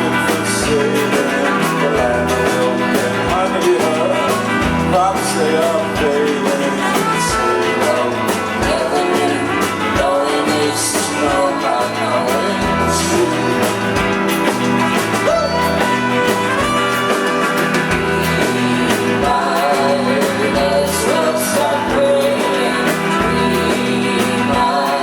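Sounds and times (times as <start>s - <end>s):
bass: 0.0s - 25.0s
guitars: 0.0s - 25.0s
steady drum beat: 0.0s - 25.0s.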